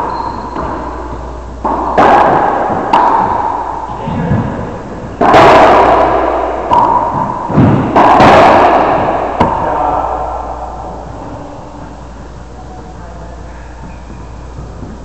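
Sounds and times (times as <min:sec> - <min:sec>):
racquetball hits echoing: 0:00.0 - 0:12.0.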